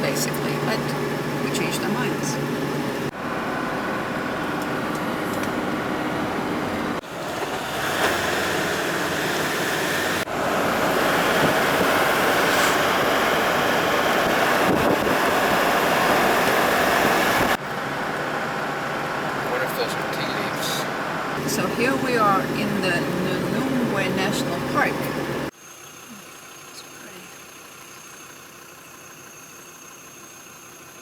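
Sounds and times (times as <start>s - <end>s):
vehicle road and wind noise: 0.0s - 25.6s.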